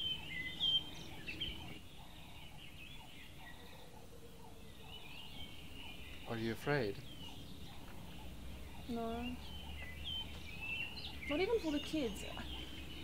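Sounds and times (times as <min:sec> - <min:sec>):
birds chirping: 0:00.0 - 0:13.0
low steady outdoor background noise: 0:00.0 - 0:13.0.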